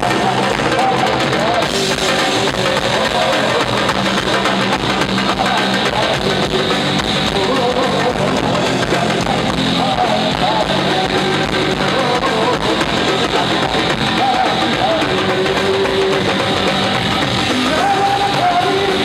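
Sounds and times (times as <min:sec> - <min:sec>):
electric guitar: 0:00.0 - 0:19.0
man singing: 0:00.0 - 0:19.0.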